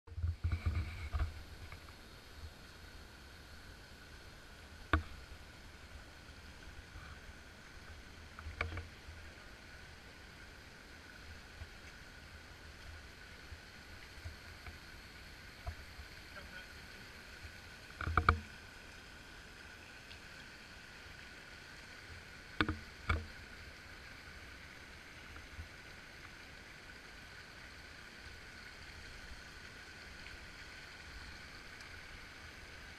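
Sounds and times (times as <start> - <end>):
faint outdoor hiss: 0.1 - 32.9.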